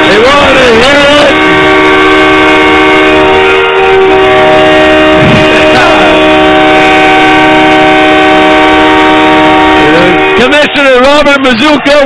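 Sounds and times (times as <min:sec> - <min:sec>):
goal horn chord: 0:00.0 - 0:11.0.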